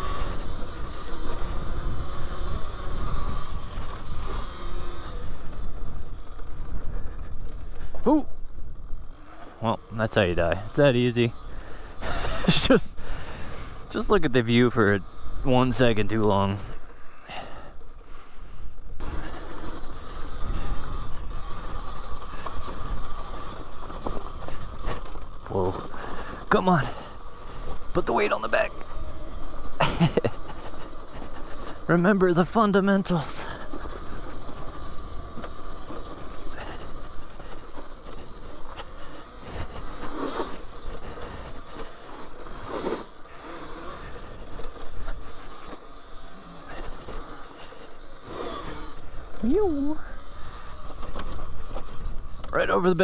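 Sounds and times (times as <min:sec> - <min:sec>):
tyres grinding over rock: 0:00.0 - 0:17.9, 0:19.0 - 0:53.0
electric motor high whine: 0:00.0 - 0:53.0.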